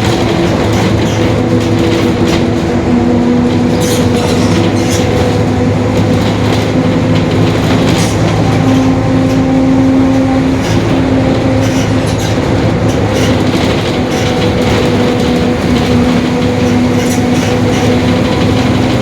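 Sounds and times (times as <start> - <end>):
bus engine running: 0.0 - 19.0
road noise: 0.0 - 19.0.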